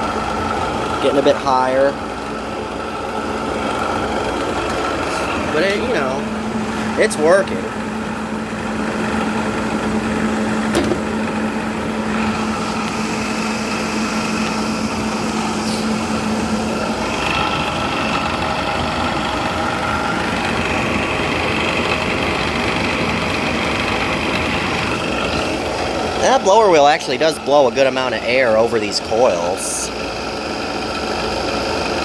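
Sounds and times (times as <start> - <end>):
air conditioner fan whirring: 0.0 - 32.0.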